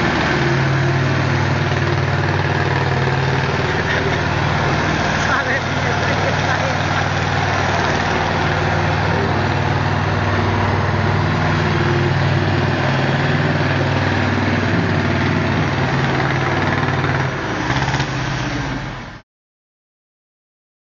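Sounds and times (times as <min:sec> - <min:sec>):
tractor diesel engine running: 0:00.0 - 0:19.2.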